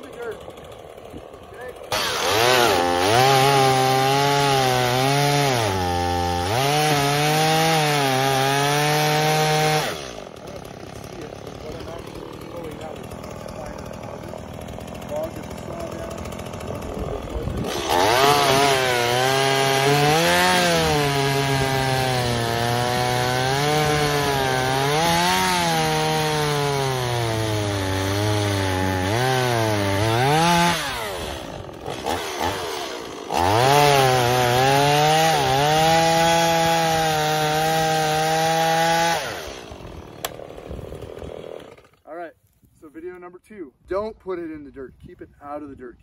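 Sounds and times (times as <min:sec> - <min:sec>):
chainsaw cutting at full throttle: 0:00.0 - 0:42.1.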